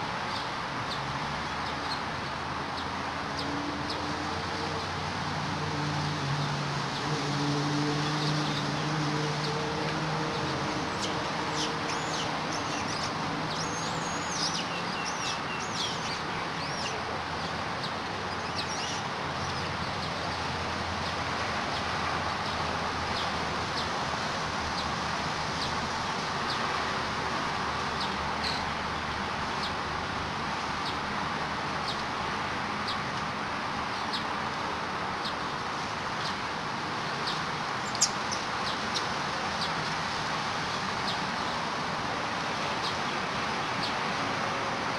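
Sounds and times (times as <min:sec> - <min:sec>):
outdoor background noise: 0:00.0 - 0:44.9.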